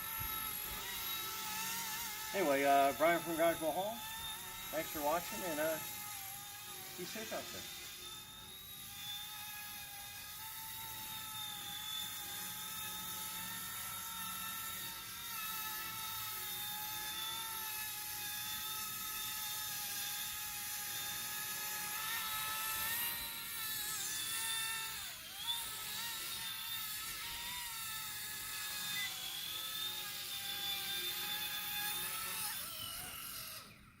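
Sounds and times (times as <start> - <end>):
toy helicopter rotors whining: 0.0 - 34.0.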